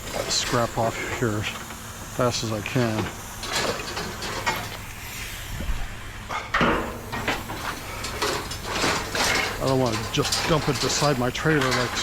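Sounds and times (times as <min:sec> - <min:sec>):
scrap metal clanking: 0:00.0 - 0:05.2, 0:06.2 - 0:12.0.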